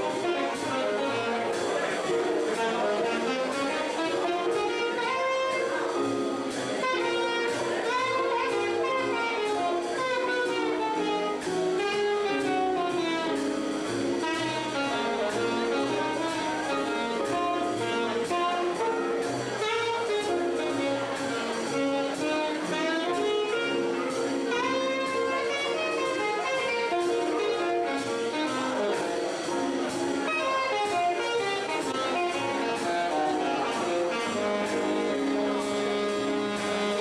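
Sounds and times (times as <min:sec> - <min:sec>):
drum kit cymbals: 0:00.0 - 0:37.0
keyboard: 0:00.0 - 0:37.0
saxophone melody: 0:00.0 - 0:37.0
upright bass: 0:00.0 - 0:37.0.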